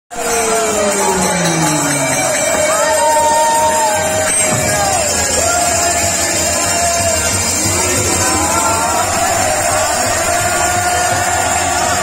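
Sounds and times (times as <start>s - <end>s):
harmonium: 0.1s - 12.0s
small cymbals jingling: 0.2s - 12.0s
voices singing: 0.2s - 12.0s.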